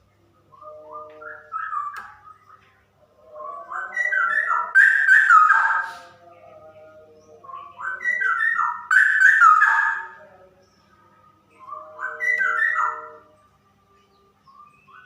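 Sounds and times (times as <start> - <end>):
bird singing whistled notes: 0.5 - 2.6, 3.3 - 6.1, 7.2 - 15.0.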